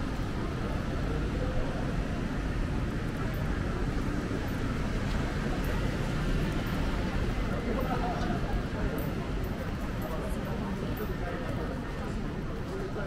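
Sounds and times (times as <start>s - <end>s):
street ambience low rumble: 0.0s - 13.0s.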